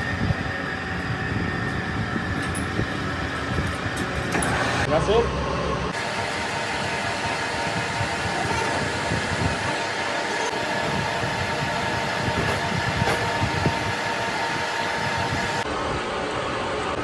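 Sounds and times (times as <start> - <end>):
machine humming and rumbling: 0.0 - 17.0.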